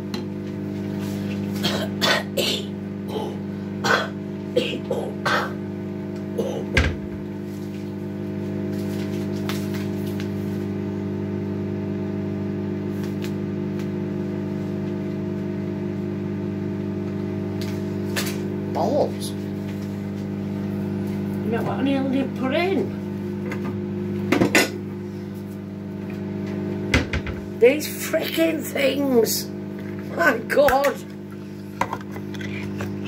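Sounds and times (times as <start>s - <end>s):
kitchen appliance humming: 0.0s - 33.0s.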